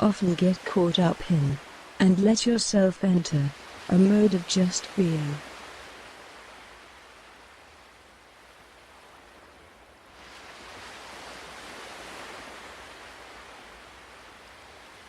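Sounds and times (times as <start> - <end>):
ocean waves on shore: 0.0 - 15.0.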